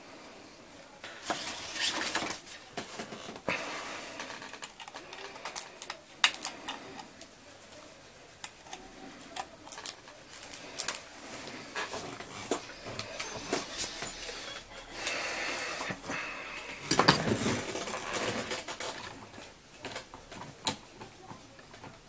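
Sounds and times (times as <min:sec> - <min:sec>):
rustling: 0:01.0 - 0:20.6.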